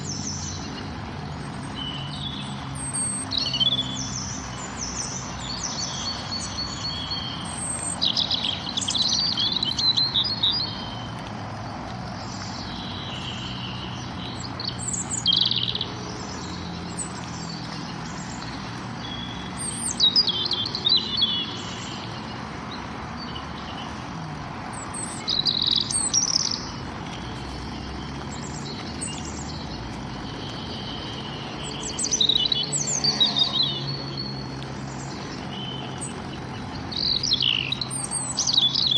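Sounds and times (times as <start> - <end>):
songbirds chirping and trilling: 0.0 - 38.9
steady background noise: 0.0 - 38.9.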